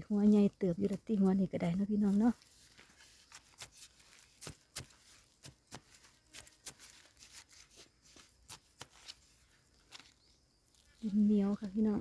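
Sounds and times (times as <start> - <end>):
scrapes and crumbling clods: 0.0 - 12.0
soil being dug by hand: 0.0 - 12.0.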